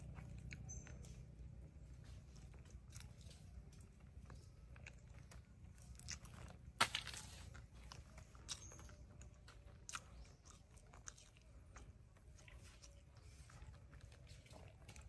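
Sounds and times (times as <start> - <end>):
person chewing: 0.0 - 1.5, 2.1 - 15.0.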